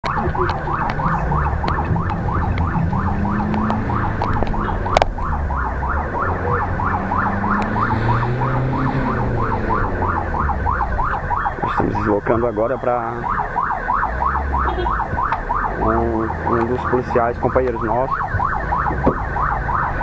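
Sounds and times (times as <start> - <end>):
electronic siren wailing: 0.0 - 20.0
engine and road noise: 0.0 - 20.0.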